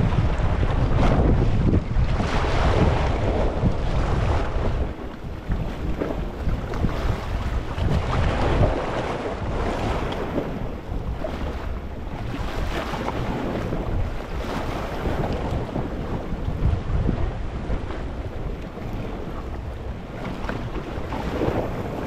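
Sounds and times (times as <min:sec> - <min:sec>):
waves washing over rocks: 0:00.0 - 0:22.0.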